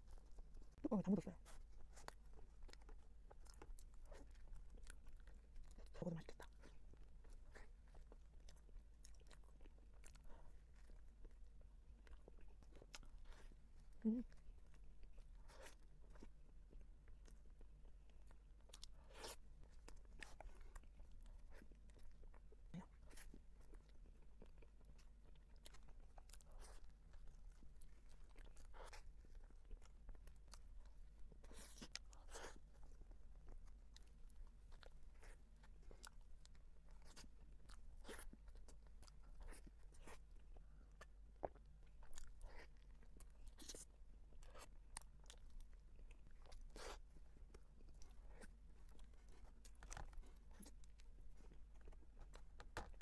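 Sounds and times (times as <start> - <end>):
chewing with mouth clicks: 0.0 - 53.0.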